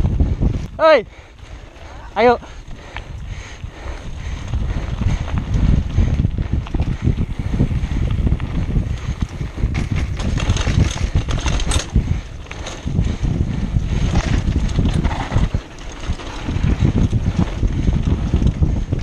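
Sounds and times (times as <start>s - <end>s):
bike clicks and rattles: 0.0s - 19.0s
wind buffeting microphone: 0.0s - 19.0s
tyres rumbling on dirt: 1.3s - 19.0s.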